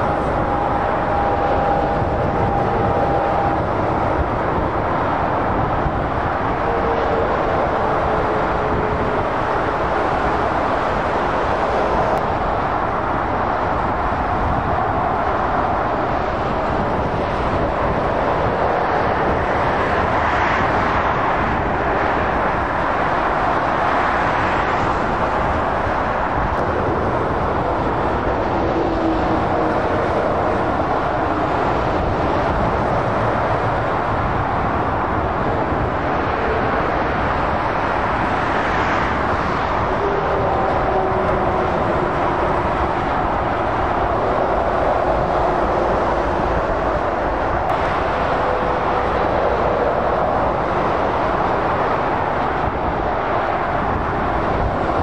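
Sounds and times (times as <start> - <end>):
motorway traffic: 0.0 - 55.0.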